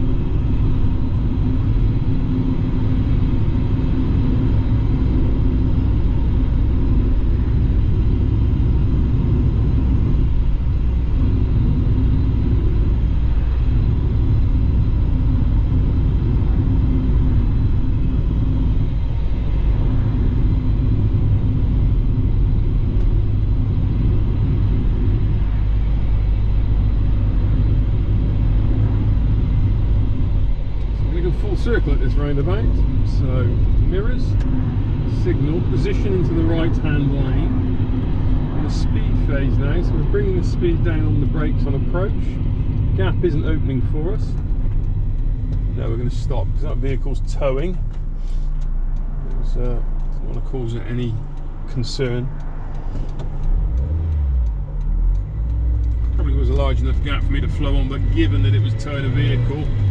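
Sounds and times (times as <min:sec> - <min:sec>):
car engine droning: 0:00.0 - 0:59.9
tyres rumbling on road: 0:00.0 - 0:59.9.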